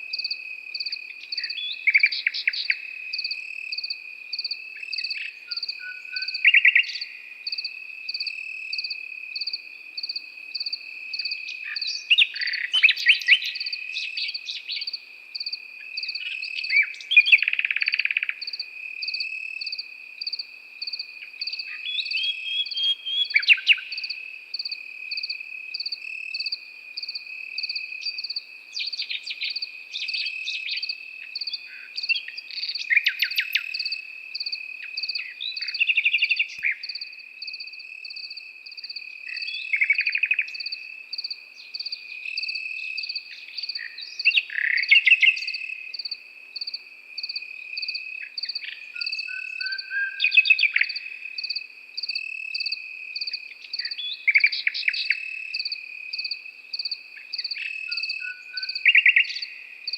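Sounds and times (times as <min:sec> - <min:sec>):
nightingale singing: 0:00.0 - 0:59.9
cricket chirping in fast pulses: 0:00.1 - 0:59.9.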